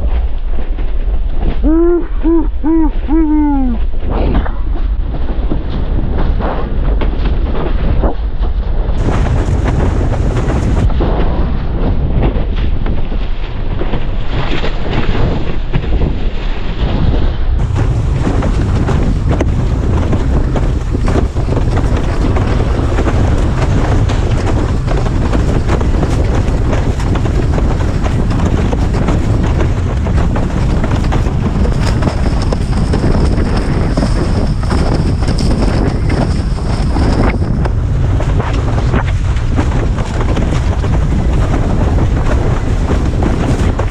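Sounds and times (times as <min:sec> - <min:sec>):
water noise under board: 0:00.0 - 0:43.9
wind buffeting microphone: 0:00.0 - 0:43.9.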